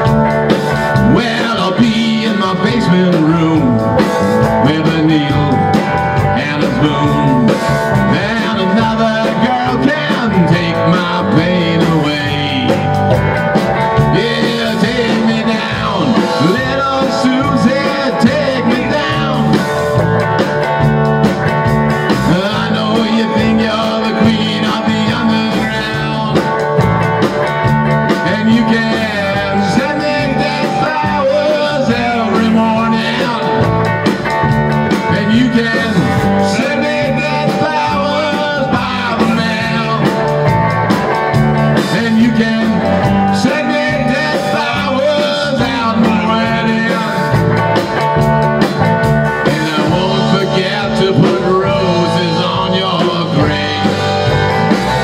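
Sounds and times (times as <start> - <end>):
drum kit beat: 0.0 - 55.0
electric guitar with bent notes: 0.0 - 55.0.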